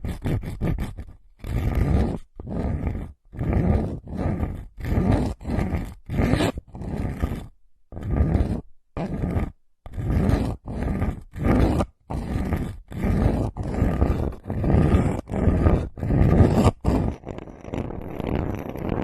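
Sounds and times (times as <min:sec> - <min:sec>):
soft steady rustle: 0:00.0 - 0:19.0.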